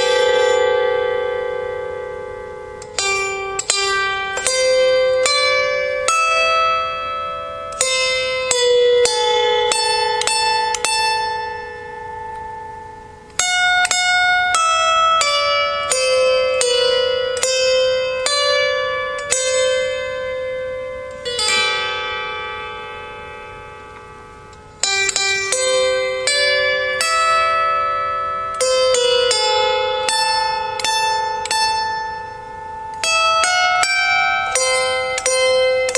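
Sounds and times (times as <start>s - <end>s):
harp plucked melody: 0.0s - 35.9s.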